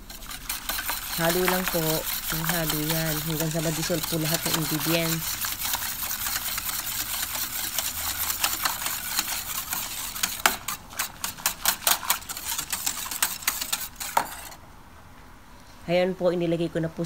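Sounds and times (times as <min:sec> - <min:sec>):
metal utensil stirring in a pot: 0:00.0 - 0:14.6.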